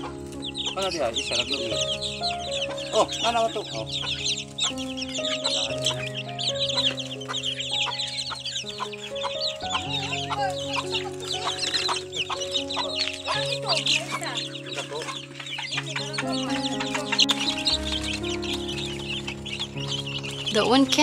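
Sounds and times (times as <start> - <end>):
background music of held chords: 0.0 - 21.0
chicks peeping: 0.0 - 21.0.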